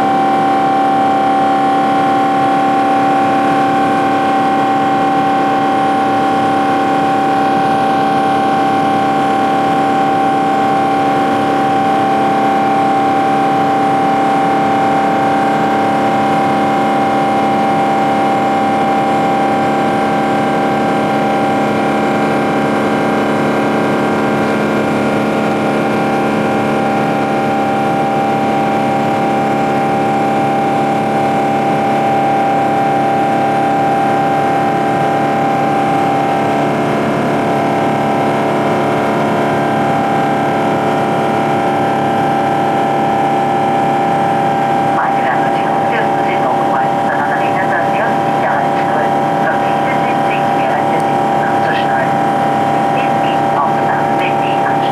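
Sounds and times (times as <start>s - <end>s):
jet engine rushing noise in flight: 0.0s - 54.9s.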